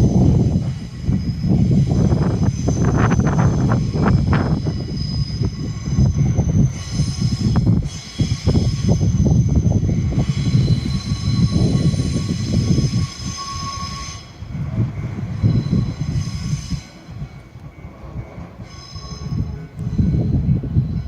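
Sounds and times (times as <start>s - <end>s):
high squeal from train wheels: 0.0s - 21.0s
train wheels rumbling over rail joints: 0.0s - 21.0s.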